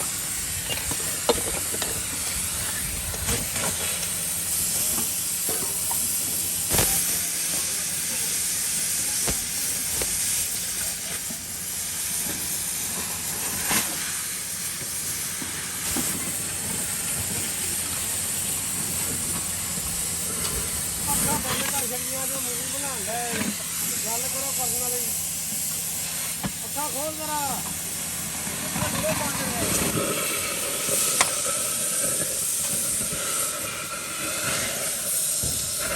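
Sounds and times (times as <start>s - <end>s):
factory hissing noise: 0.0s - 35.9s.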